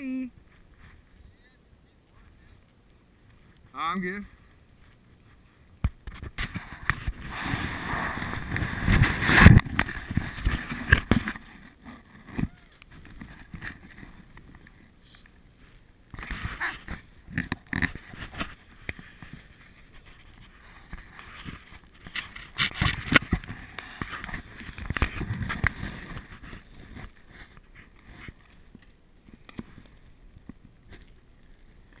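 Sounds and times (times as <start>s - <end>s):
camera rubbing against jacket: 4.3s - 30.1s.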